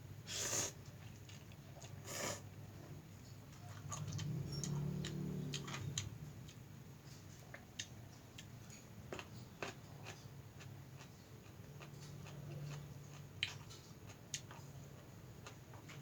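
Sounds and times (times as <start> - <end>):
chewing noises: 0.8 - 16.0.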